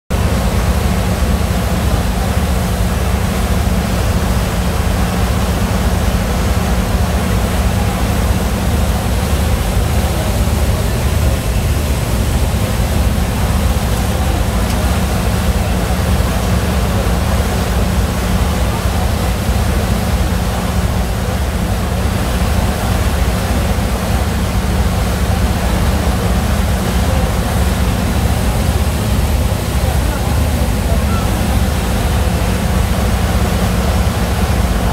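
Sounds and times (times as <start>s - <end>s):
ferry engine drone: 0.1s - 34.9s
wake water churning: 0.1s - 34.9s.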